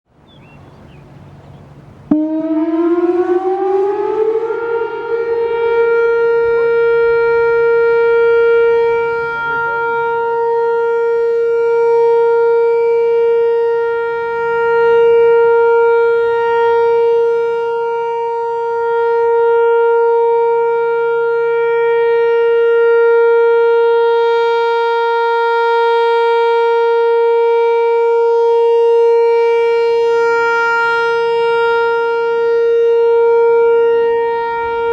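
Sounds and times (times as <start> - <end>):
warning siren rising to steady tone: 0.6 - 34.9.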